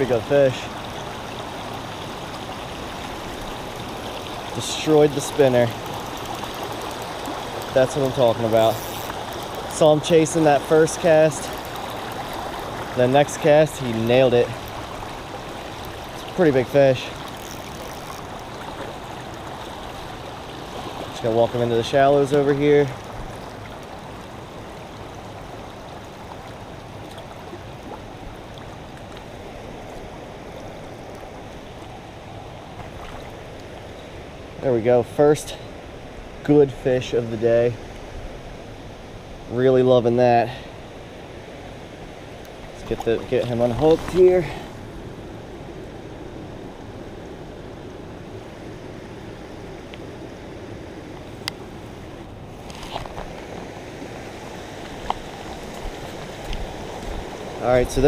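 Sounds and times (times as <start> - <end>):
creek water over stones: 0.0 - 58.0.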